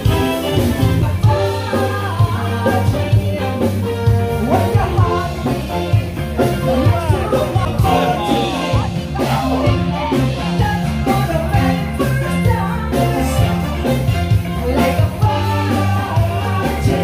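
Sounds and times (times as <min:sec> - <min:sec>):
live rock band playing: 0:00.0 - 0:17.0
steady drum beat: 0:00.0 - 0:17.0
person singing: 0:00.1 - 0:17.0.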